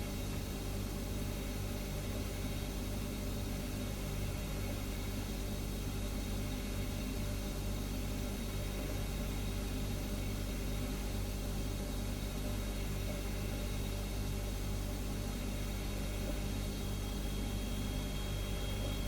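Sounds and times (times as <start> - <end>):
refrigerator compressor humming: 0.0 - 19.0.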